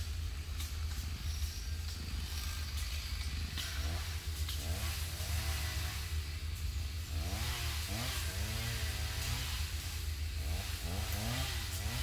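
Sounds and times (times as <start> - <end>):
chainsaw engine revving: 2.2 - 12.0.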